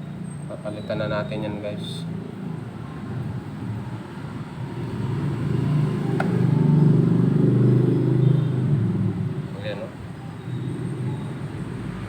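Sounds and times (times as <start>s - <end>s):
motor vehicle rumble: 2.2s - 12.0s.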